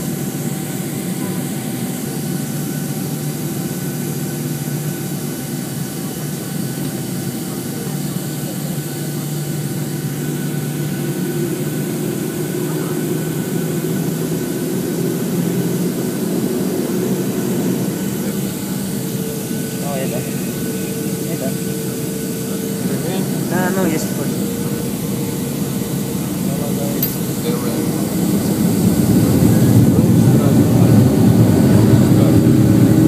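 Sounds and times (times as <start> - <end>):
jet engines humming in cabin: 0.0 - 33.0.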